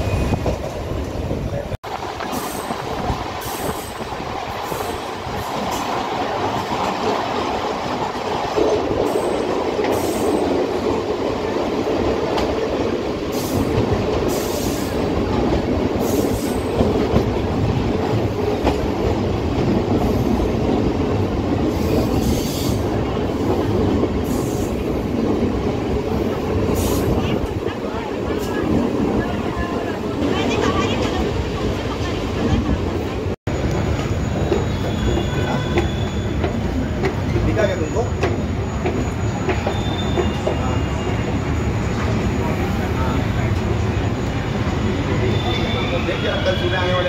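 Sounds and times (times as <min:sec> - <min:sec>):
train wheels on rails: 0:00.0 - 0:47.0.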